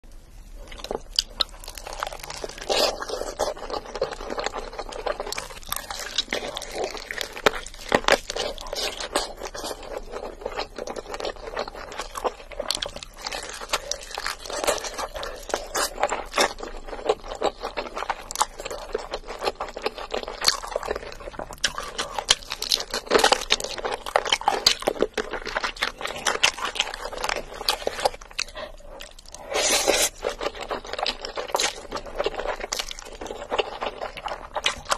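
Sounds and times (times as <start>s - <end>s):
wet chewing: 0.5s - 34.9s.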